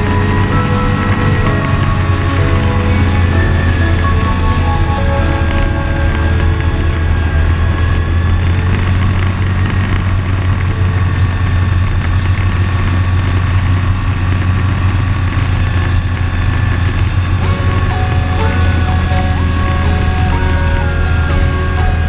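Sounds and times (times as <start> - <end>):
vehicle engine droning: 0.0 - 22.0.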